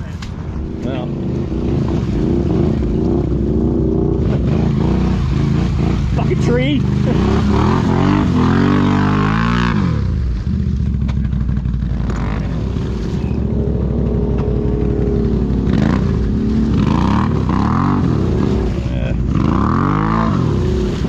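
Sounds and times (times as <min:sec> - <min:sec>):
atv engine revving: 0:00.5 - 0:21.0.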